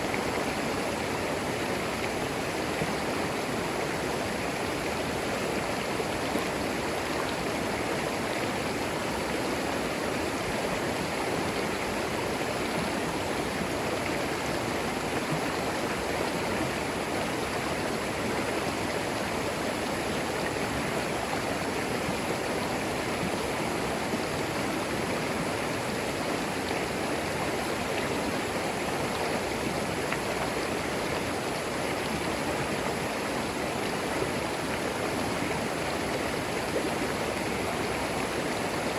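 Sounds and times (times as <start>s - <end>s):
creek flowing over stones: 0.0s - 38.9s.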